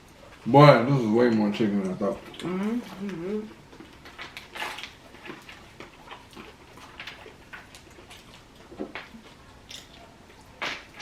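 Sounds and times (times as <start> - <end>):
chewing and mouth noises: 1.4 - 11.0.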